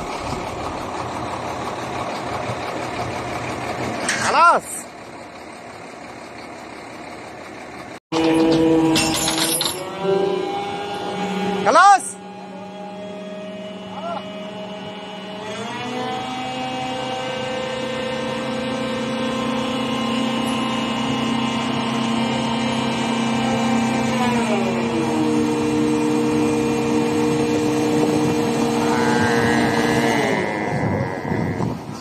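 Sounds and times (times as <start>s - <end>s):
heavy equipment diesel engine revving: 0.0s - 9.0s, 9.8s - 32.0s.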